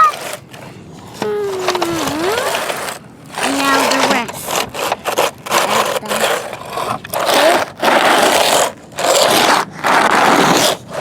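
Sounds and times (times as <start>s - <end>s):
toy bulldozer scraping sand and gravel: 0.0s - 11.0s.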